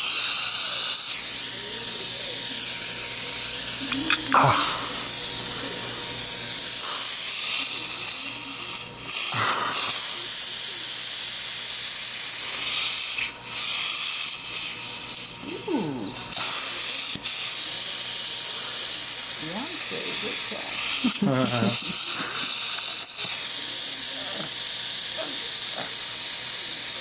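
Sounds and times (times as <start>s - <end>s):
dental suction hissing: 0.0s - 27.0s.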